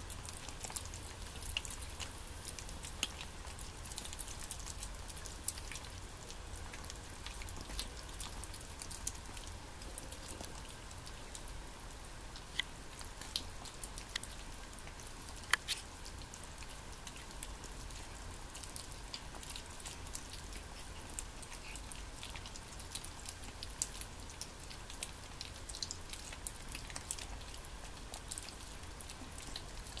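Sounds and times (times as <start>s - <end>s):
kittens crunching dry food: 0.0s - 30.0s.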